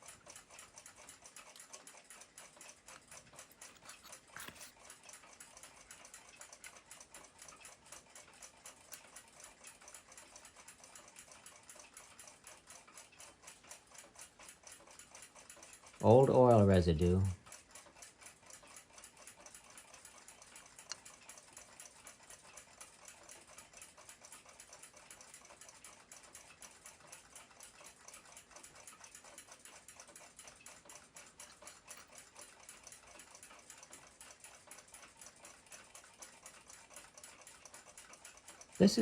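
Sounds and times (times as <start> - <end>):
clock ticking: 0.0 - 39.0.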